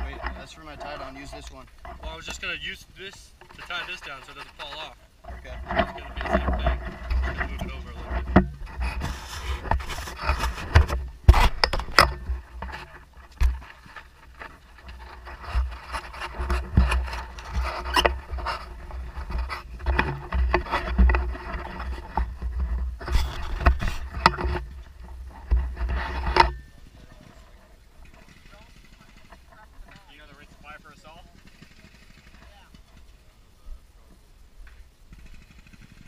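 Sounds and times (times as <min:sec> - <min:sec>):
microphone rubbing against clothing: 0:00.0 - 0:34.2.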